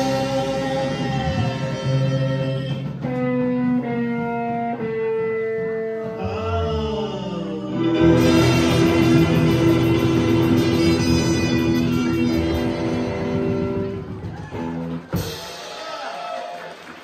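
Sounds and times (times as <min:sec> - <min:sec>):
live rock band with trumpet: 0:00.0 - 0:06.7, 0:07.6 - 0:16.6.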